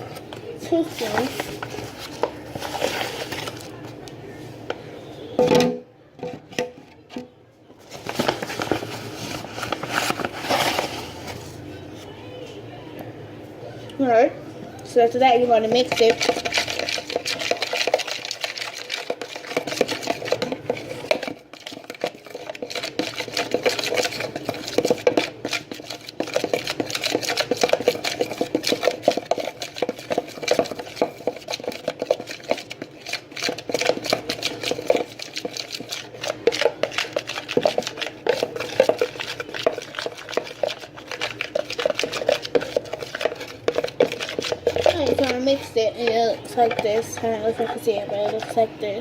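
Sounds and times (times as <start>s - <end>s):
spoon stirring and scraping bowl: 0.0s - 4.8s, 5.4s - 11.7s, 15.0s - 49.0s.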